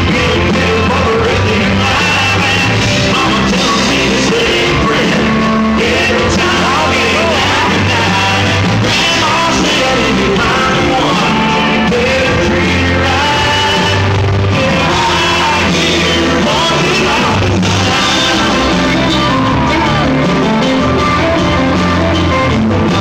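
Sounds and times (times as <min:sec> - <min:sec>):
man singing: 0:00.0 - 0:22.4
live country band playing: 0:00.0 - 0:23.0.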